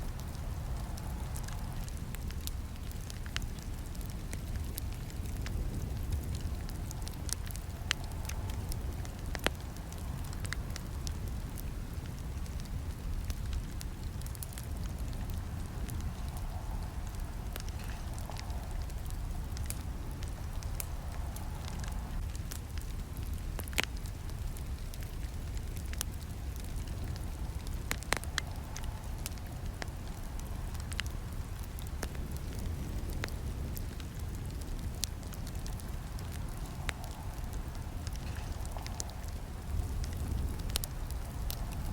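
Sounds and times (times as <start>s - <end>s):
campfire crackling and popping: 0.0s - 41.9s
low rumble of flames: 0.0s - 41.9s.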